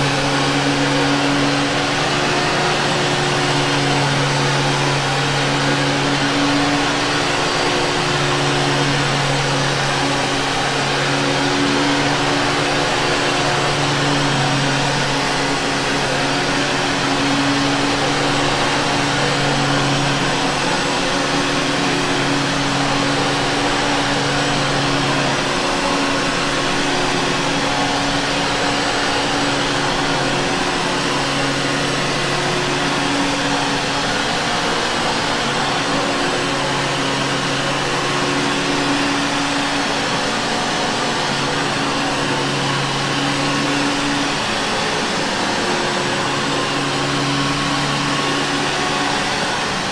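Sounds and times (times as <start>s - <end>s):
vacuum cleaner on carpet: 0.0s - 49.9s.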